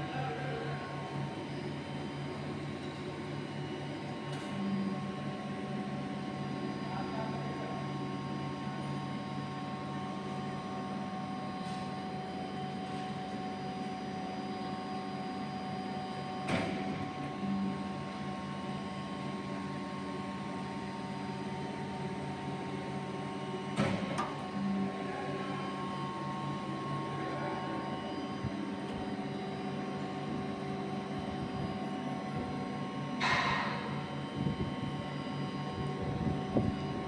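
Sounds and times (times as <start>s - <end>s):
machine humming with steady tones: 0.0s - 37.0s.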